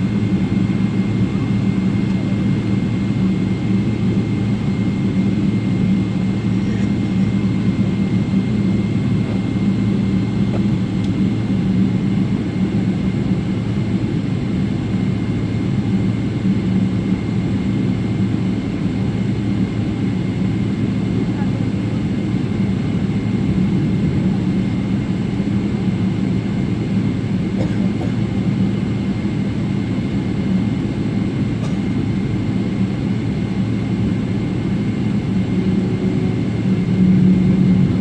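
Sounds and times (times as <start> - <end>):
airliner engines droning: 0.0 - 38.0.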